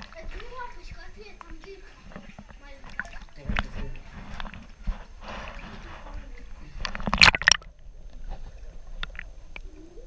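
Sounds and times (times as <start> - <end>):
water sloshing and splashing: 0.0 - 9.6.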